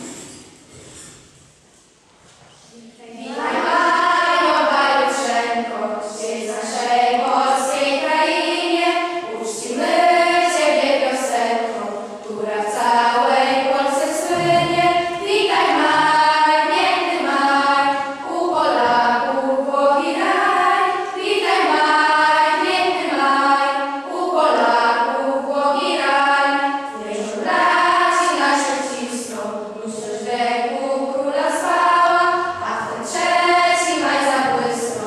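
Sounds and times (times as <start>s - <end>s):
girls choir singing: 2.8s - 35.0s.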